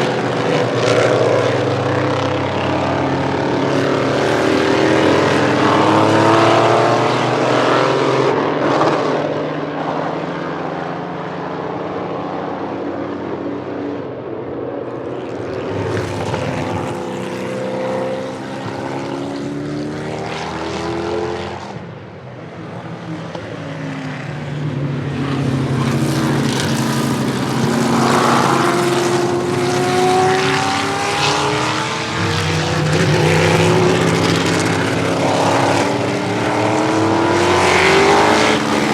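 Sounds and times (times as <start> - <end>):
race cars accelerating past: 0.0 - 38.9.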